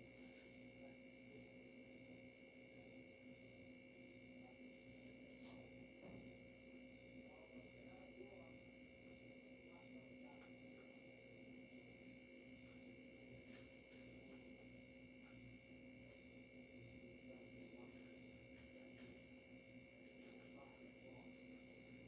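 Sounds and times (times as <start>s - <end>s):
faint electrical hum and whine: 0.0s - 22.0s.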